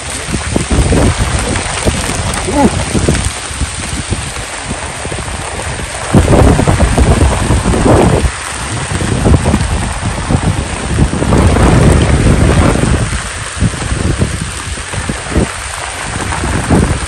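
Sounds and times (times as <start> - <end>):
heavy rain falling: 0.0 - 17.0
low rumble: 0.0 - 17.0.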